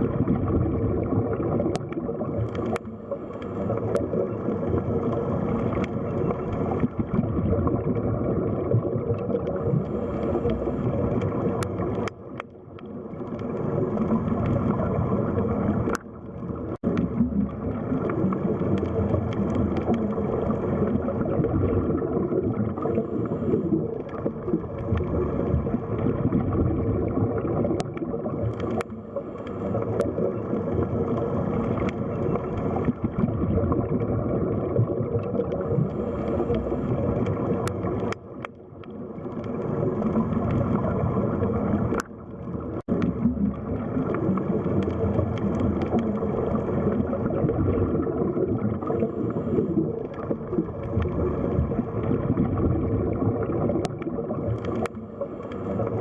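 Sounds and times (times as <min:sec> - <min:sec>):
underwater rush and gurgle: 0:00.0 - 0:56.0.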